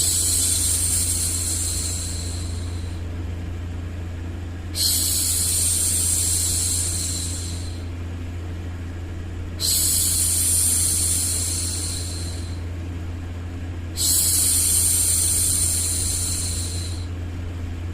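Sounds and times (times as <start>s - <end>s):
low white-noise hum: 0.0s - 17.9s.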